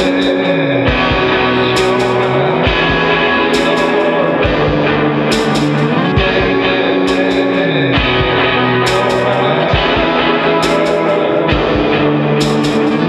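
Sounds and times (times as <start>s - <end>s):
instrumental music: 0.0s - 13.0s.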